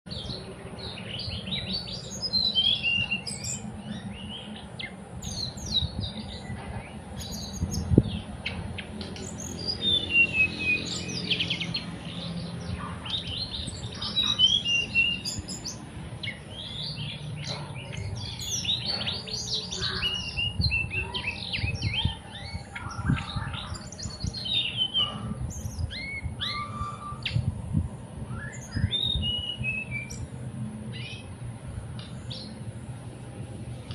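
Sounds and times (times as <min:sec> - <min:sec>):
bird singing rapid high chirps: 0:00.1 - 0:27.6, 0:28.2 - 0:31.4, 0:32.0 - 0:32.7.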